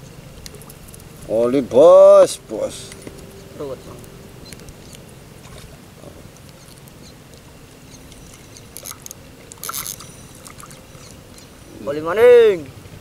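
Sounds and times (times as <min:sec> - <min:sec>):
fish splashing: 0:00.0 - 0:01.4, 0:02.4 - 0:11.7.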